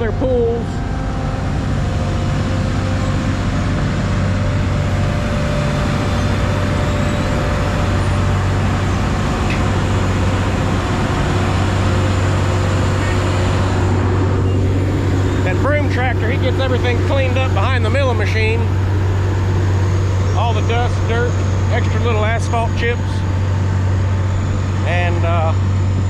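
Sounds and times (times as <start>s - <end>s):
heavy diesel engines running: 0.0s - 26.0s.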